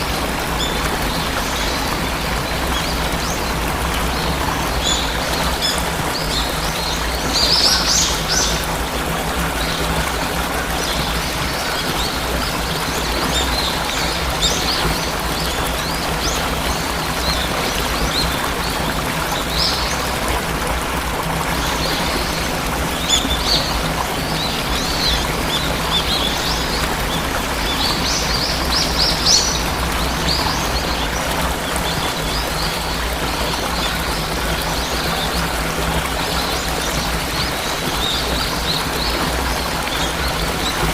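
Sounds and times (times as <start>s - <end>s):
songbirds chirping: 0.0s - 40.9s
waterfall rushing: 0.0s - 40.9s.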